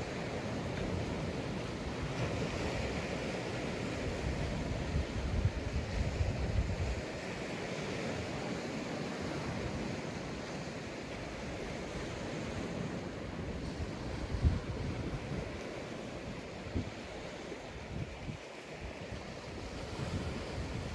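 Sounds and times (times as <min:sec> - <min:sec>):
waves breaking on a beach: 0:00.0 - 0:20.9
wind buffeting microphone: 0:00.9 - 0:08.4, 0:11.2 - 0:20.9.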